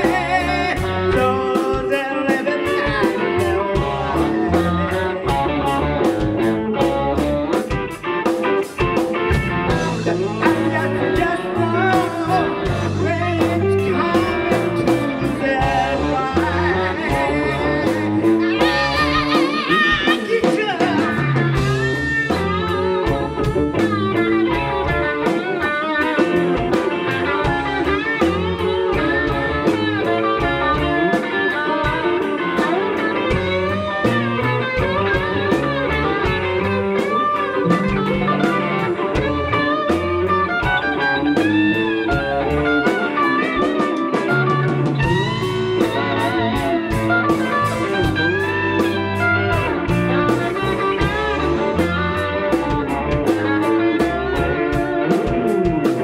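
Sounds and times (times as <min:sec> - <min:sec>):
bass guitar: 0:00.0 - 0:56.0
drums: 0:00.0 - 0:56.0
electric guitar lead: 0:00.0 - 0:56.0.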